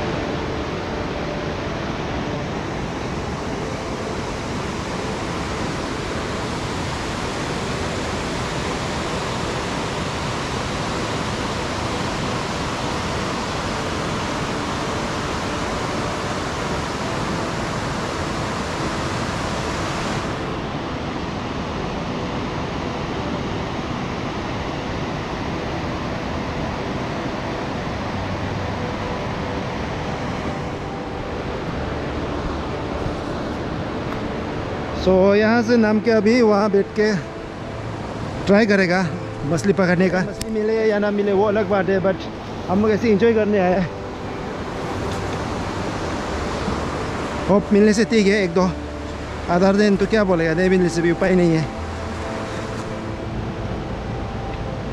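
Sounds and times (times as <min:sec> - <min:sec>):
river rushing over rapids: 0:00.0 - 0:54.9.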